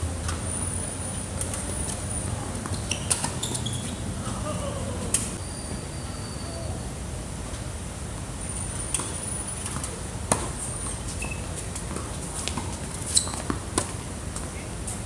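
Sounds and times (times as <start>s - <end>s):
tennis shoes squeaking: 0.5s - 6.6s, 8.6s - 15.0s.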